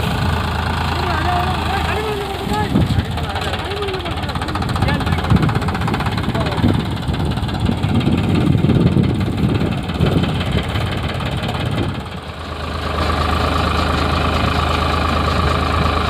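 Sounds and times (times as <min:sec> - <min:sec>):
engine whine: 0:00.0 - 0:16.0
tractor diesel engine running: 0:00.0 - 0:16.0.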